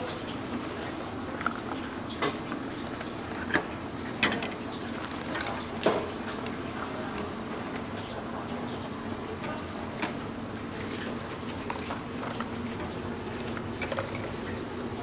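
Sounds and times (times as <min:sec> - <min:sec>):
street food stall hum: 0:00.0 - 0:15.0.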